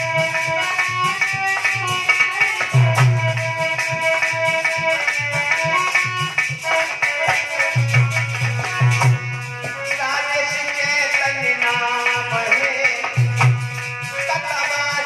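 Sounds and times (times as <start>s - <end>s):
sustained melody instrument: 0.0s - 15.0s.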